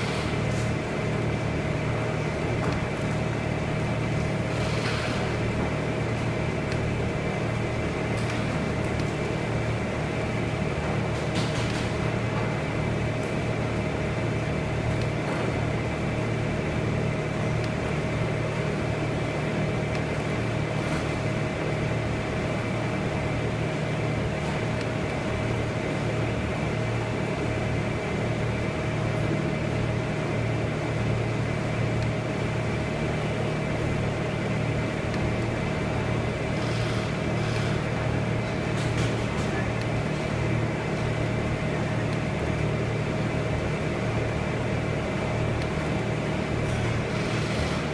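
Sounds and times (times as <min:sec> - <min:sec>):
low machine hum drone: 0:00.0 - 0:47.9.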